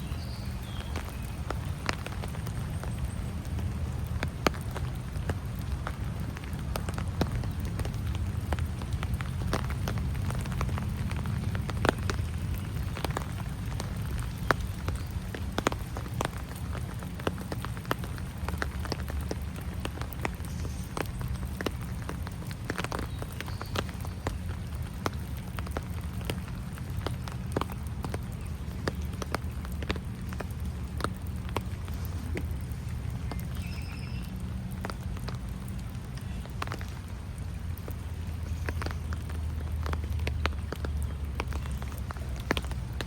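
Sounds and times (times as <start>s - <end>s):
raindrops ticking: 0.0s - 43.0s.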